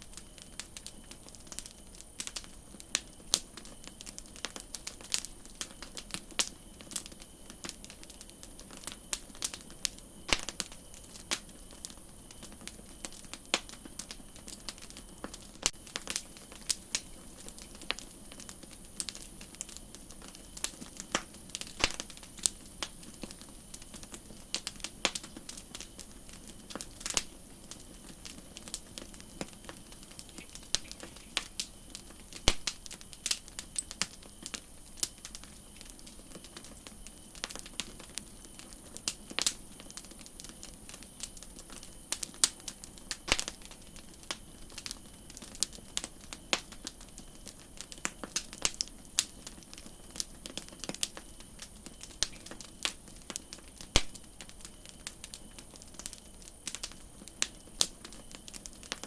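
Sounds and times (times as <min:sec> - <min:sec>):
campfire crackling: 0:00.0 - 0:59.0
soft steady hiss: 0:00.0 - 0:59.0.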